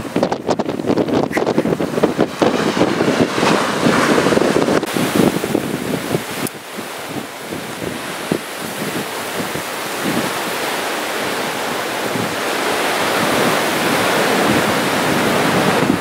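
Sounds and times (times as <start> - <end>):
surf rushing: 0.0 - 16.0
wind buffeting microphone: 0.0 - 16.0.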